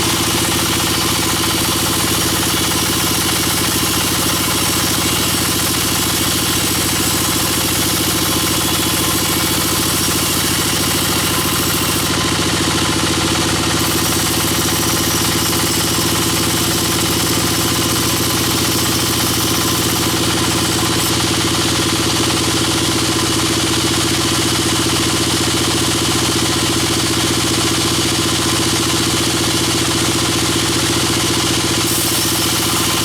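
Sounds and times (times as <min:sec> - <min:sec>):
band sawmill running: 0:00.0 - 0:33.0.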